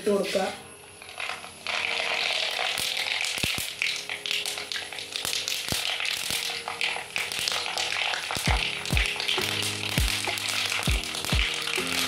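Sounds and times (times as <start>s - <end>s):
seeds sizzling in oil: 0.1s - 12.0s
seeds popping and crackling: 1.0s - 12.0s.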